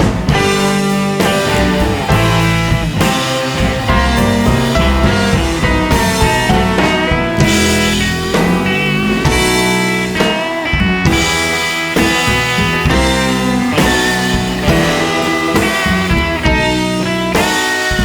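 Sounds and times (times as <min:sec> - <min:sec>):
guitar rock music with drums: 0:00.0 - 0:18.0.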